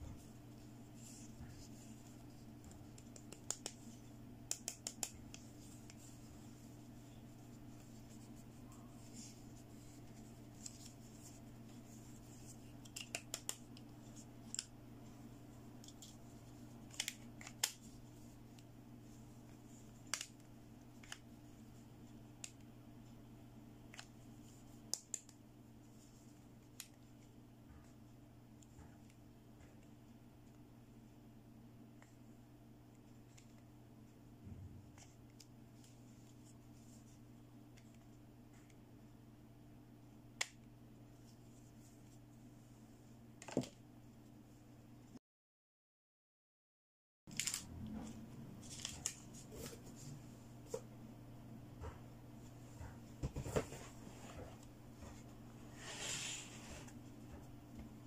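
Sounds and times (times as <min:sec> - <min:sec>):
faint steady hum: 0:00.0 - 0:45.2, 0:47.3 - 0:58.0.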